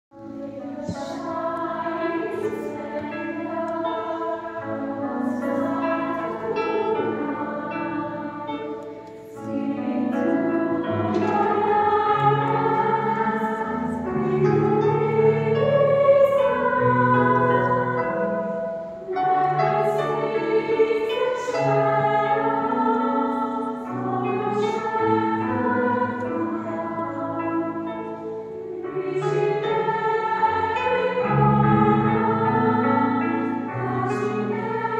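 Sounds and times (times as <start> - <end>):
choir singing in harmony: 0.2 - 34.9.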